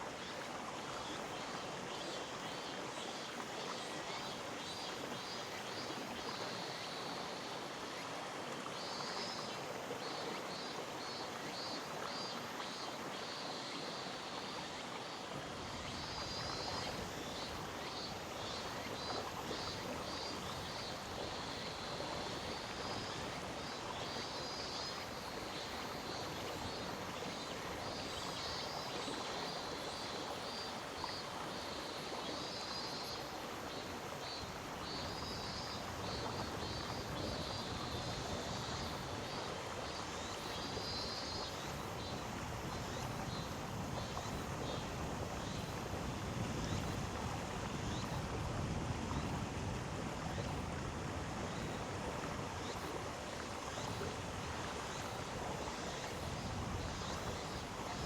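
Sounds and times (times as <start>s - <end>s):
mountain stream flowing: 0.0s - 58.0s.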